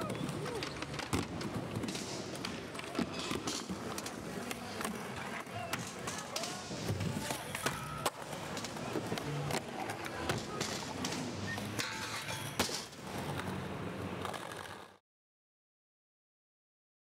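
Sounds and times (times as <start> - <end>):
skateboard clacking: 0.0 - 15.0
skateboard wheels rolling on concrete: 0.0 - 15.0.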